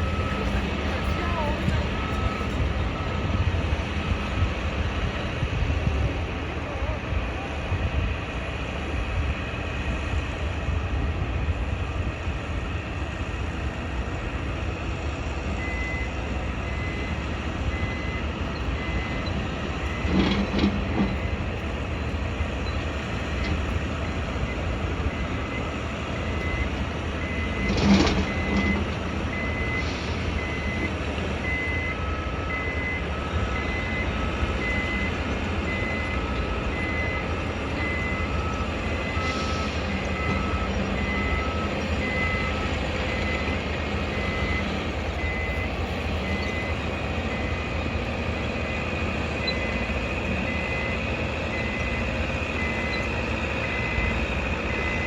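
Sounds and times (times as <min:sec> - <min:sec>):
lower-pitched alarm beeping: 0:00.0 - 0:04.8, 0:15.6 - 0:55.0
reversing alarms beeping: 0:00.0 - 0:06.6, 0:15.3 - 0:55.0
low engine rumble: 0:00.0 - 0:55.0.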